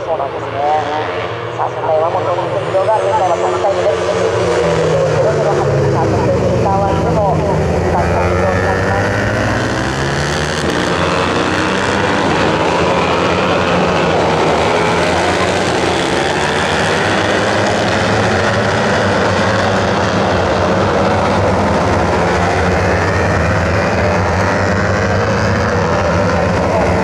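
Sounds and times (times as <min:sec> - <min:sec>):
racing motorcycles at high revs: 0:00.0 - 0:27.0.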